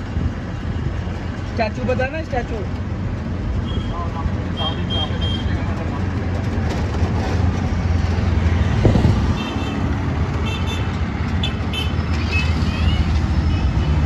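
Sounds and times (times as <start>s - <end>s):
auto-rickshaw engine running: 0.0s - 14.0s
road and traffic noise: 0.0s - 14.0s.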